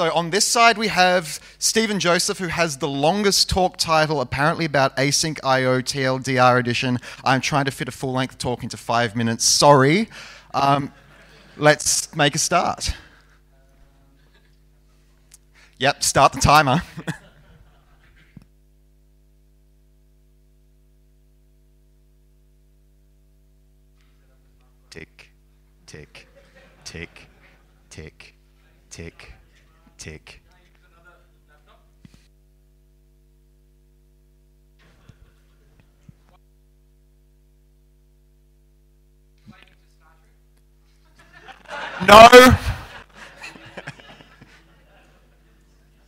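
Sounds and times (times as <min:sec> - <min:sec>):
faint mains hum: 0:00.0 - 0:46.0.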